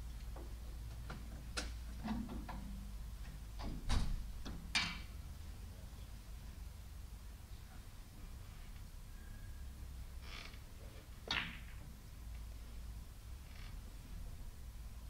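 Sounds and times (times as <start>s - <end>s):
low hum of snooker hall: 0.0s - 15.0s.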